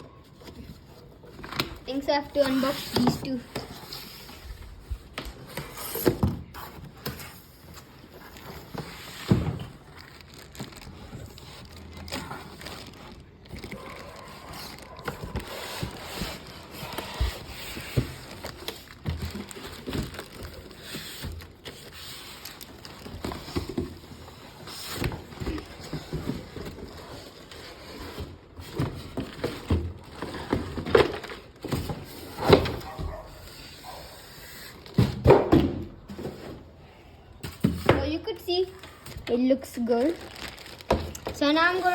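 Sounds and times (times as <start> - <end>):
packaging being handled: 0.0 - 35.0, 38.5 - 41.9.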